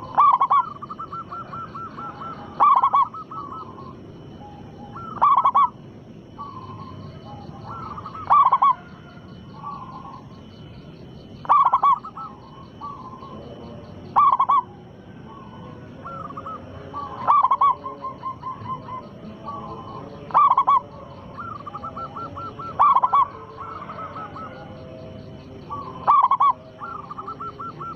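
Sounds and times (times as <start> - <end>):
dove cooing: 0.0 - 27.9.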